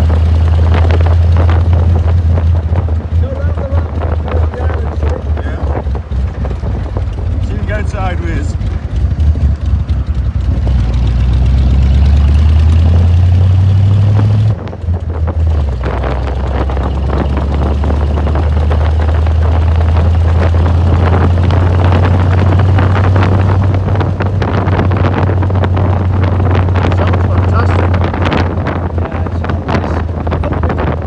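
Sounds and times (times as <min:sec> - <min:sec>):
car engine pulling away: 0:00.0 - 0:31.0
wind and road noise: 0:00.0 - 0:31.0.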